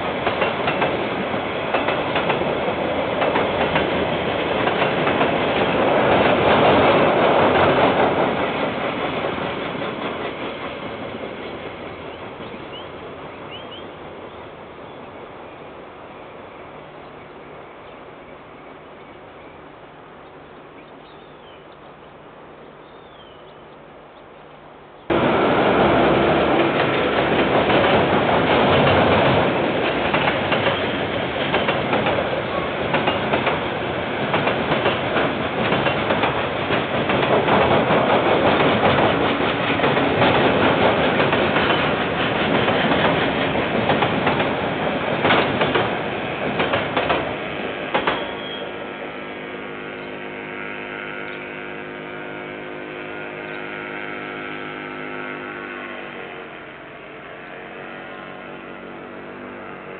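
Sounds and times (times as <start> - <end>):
freight train rumbling past: 0.0 - 21.4, 25.0 - 59.9.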